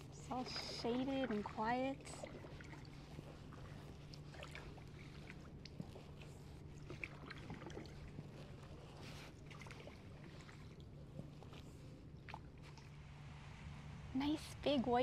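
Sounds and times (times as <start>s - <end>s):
small splashes and trickles: 0.0s - 13.0s
paddle dipping and dripping: 0.0s - 13.7s
faint low hum: 0.0s - 15.0s.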